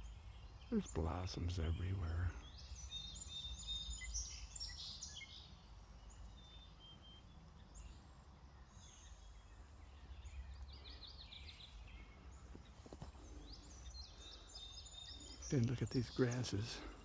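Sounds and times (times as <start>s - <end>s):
faint songbirds singing: 0.0s - 17.0s.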